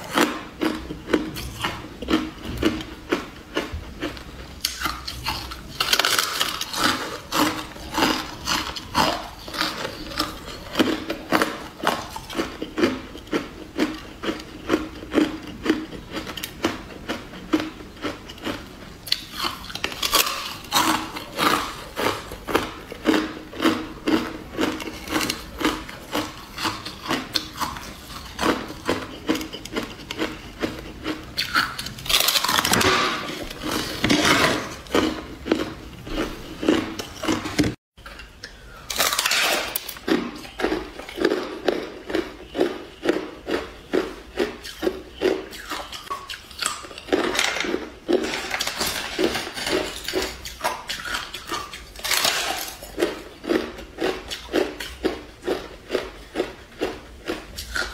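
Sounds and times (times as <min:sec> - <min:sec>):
teeth crunching ice: 0:00.0 - 0:57.9.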